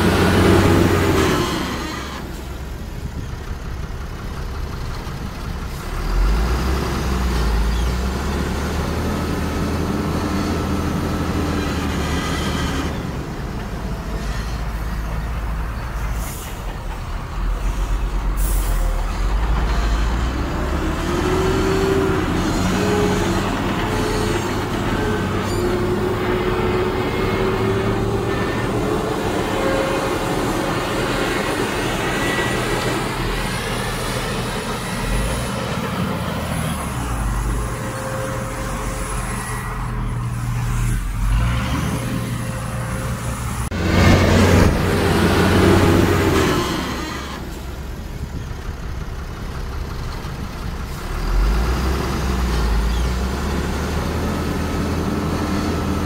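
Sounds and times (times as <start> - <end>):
diesel machinery engine rumbling: 0.0 - 56.0.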